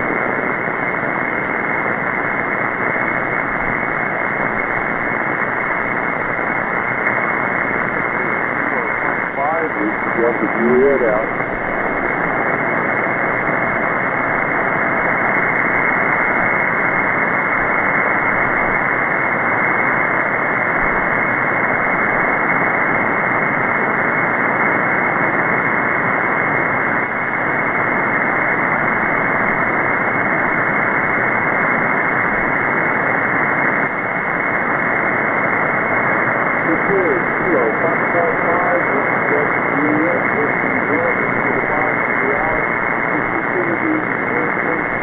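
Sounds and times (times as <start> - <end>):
muffled radio static hiss: 0.0 - 45.0.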